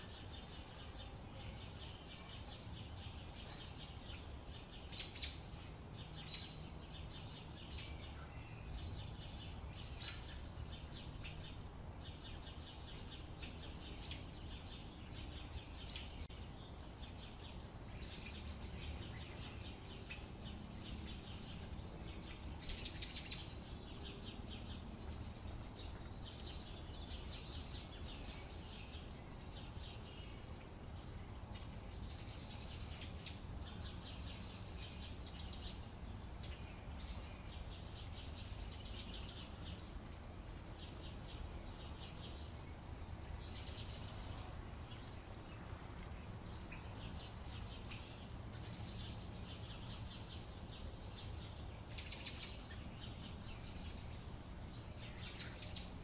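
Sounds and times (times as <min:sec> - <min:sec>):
birds chirping: 0:00.0 - 0:56.0
low background rumble: 0:00.0 - 0:56.0.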